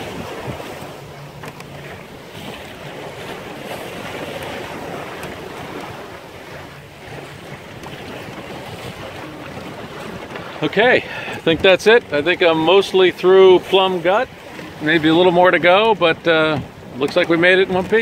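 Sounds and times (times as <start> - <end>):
waves splashing against hull: 0.0 - 18.0
wind buffeting microphone: 0.0 - 18.0.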